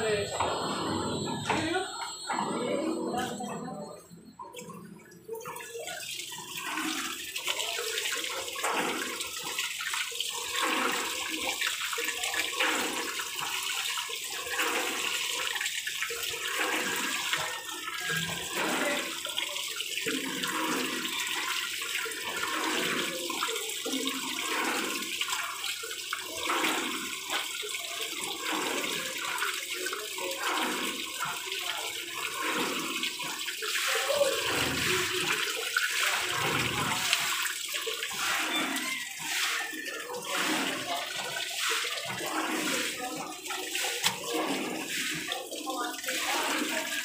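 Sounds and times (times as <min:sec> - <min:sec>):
water gushing from pipe: 0:00.0 - 0:47.0
water splashing on concrete: 0:05.3 - 0:47.0.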